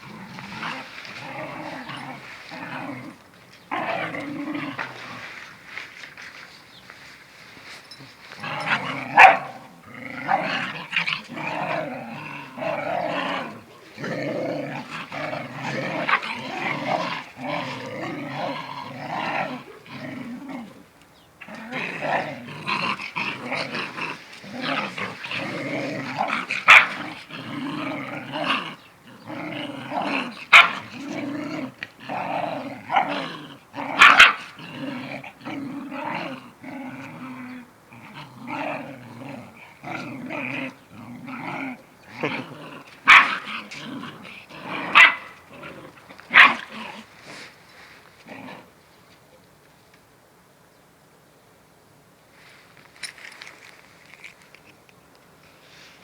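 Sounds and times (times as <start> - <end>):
dogs growling: 0.0 - 5.5, 7.9 - 47.6.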